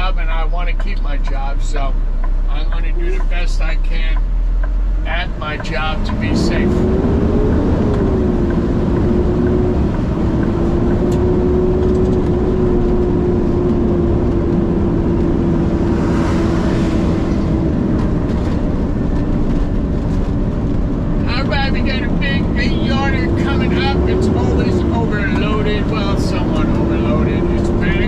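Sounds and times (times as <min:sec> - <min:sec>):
road noise: 0:00.0 - 0:28.0
truck engine drone: 0:00.0 - 0:28.0.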